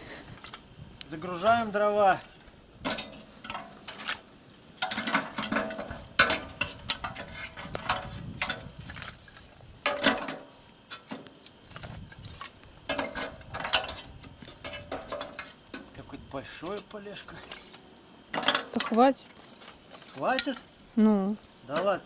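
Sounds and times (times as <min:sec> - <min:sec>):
logs clattering on metal stove: 0:00.0 - 0:22.0.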